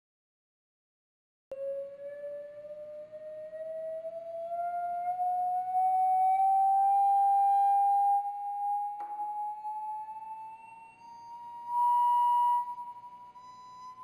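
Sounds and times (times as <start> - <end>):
rising sine test tone: 1.5 - 14.0.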